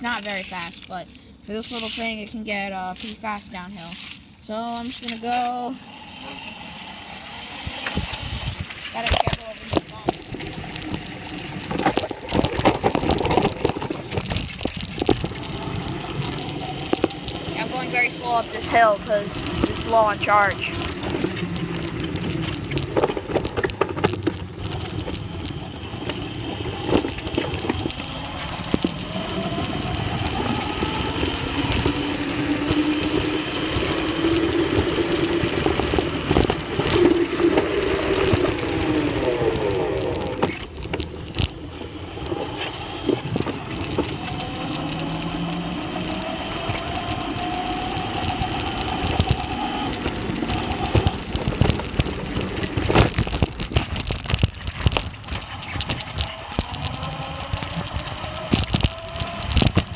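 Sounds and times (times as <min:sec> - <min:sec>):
tyre and road rumble: 0:00.0 - 0:59.9
electric scooter motor whine: 0:05.0 - 0:59.9.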